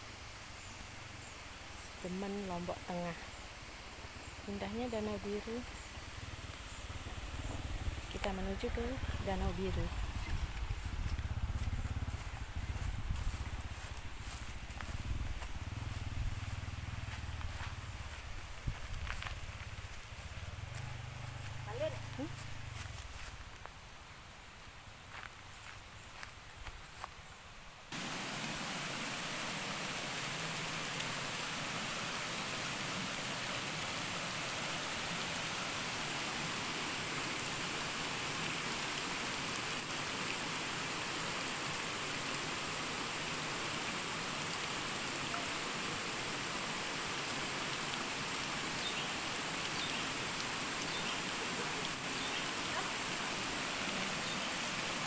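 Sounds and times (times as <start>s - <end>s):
water hissing: 0.0s - 23.6s, 27.9s - 55.0s.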